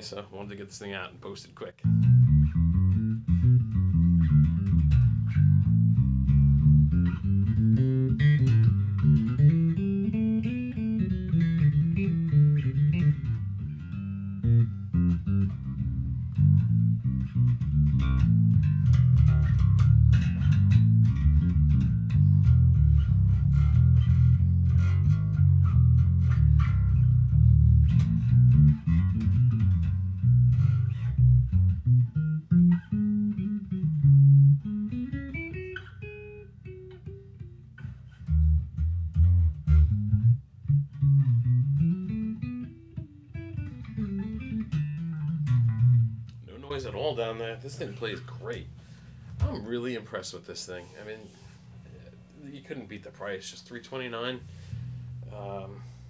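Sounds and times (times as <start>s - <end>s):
electric bass plucked fingerstyle: 1.8s - 56.0s.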